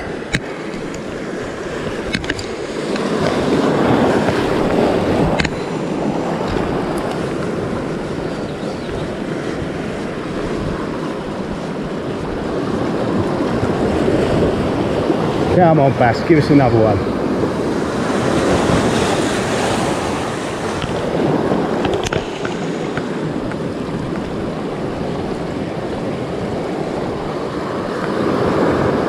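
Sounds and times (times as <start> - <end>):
sea surf washing over rocks: 0.0 - 29.0
wind buffeting microphone: 0.0 - 29.0.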